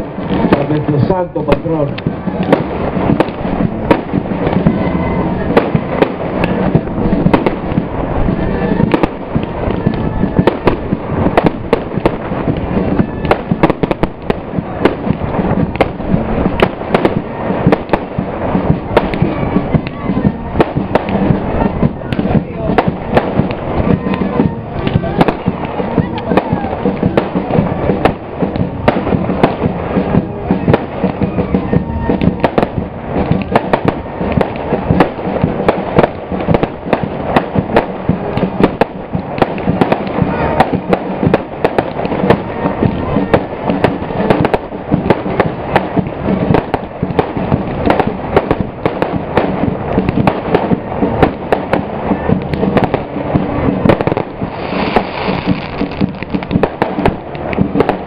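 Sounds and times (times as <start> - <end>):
bonfire crackling and popping: 0.0 - 58.0.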